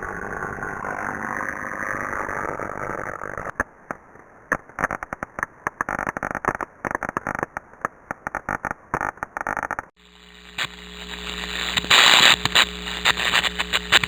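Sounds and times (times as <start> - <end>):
crackling and popping clicks: 2.1 - 14.0.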